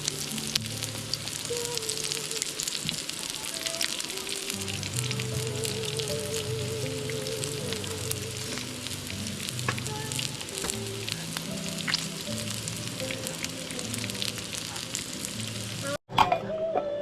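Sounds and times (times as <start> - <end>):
food sizzling in a pan: 0.0 - 16.0
soft background music: 3.3 - 17.0.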